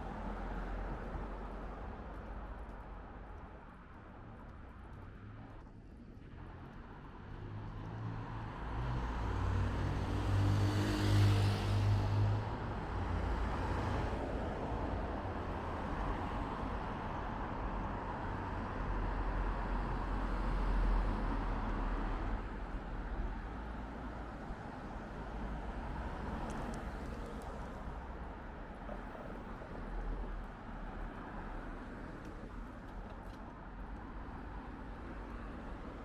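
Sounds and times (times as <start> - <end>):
traffic hum: 0.0 - 36.0.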